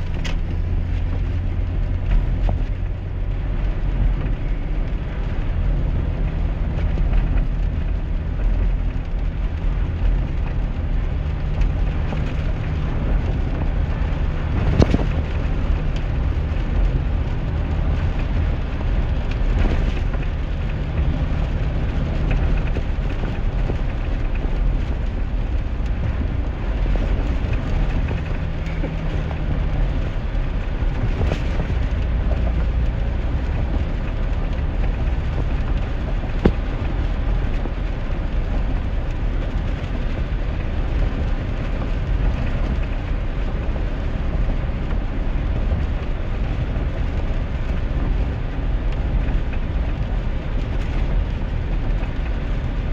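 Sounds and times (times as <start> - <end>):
engine and road rumble: 0.0 - 52.9
rain hissing on wet tyres: 0.0 - 52.9.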